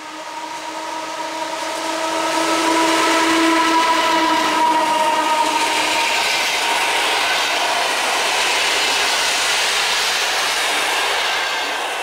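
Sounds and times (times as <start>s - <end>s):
train wheels rushing on rails: 0.0s - 12.0s.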